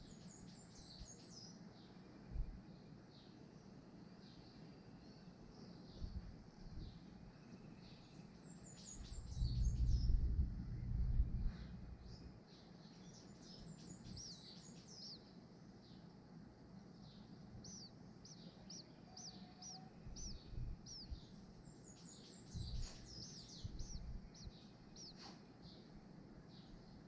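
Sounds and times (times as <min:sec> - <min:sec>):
faint high-pitched bird chirps: 0:00.0 - 0:15.3, 0:16.8 - 0:27.0.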